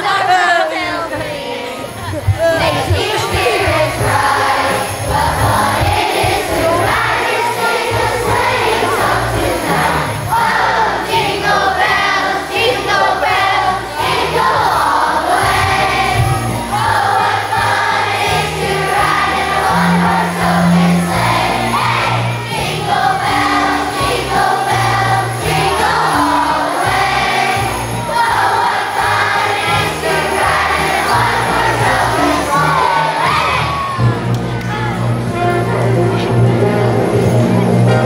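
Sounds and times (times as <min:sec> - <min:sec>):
children's choir singing: 0:00.0 - 0:38.0
instrumental accompaniment: 0:00.0 - 0:38.0.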